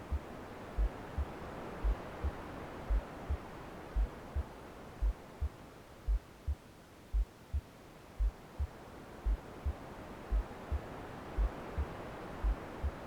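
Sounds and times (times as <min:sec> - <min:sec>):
white noise hiss: 0:00.0 - 0:13.0
heartbeat thumps: 0:00.1 - 0:13.0.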